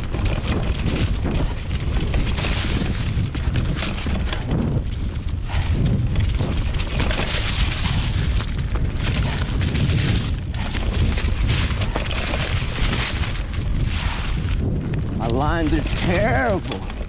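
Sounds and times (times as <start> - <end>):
bike knocks and rattles: 0.0 - 17.0
tyres rumbling over rocks: 0.0 - 17.0.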